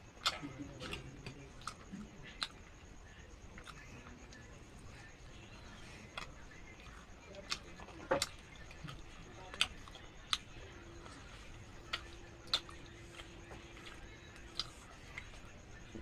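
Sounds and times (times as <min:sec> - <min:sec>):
faint steady hum: 0:00.0 - 0:16.0
person chewing and eating: 0:00.0 - 0:16.0.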